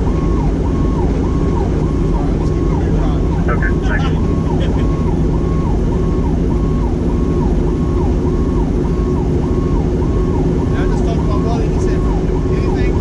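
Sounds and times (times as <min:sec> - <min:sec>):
fire truck siren yelping: 0:00.0 - 0:13.0
road noise: 0:00.0 - 0:13.0
truck engine drone: 0:00.0 - 0:13.0.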